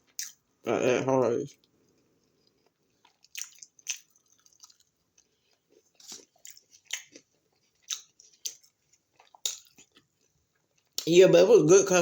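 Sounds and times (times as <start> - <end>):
person chewing crunchy food: 0.0 - 0.4, 1.6 - 11.1.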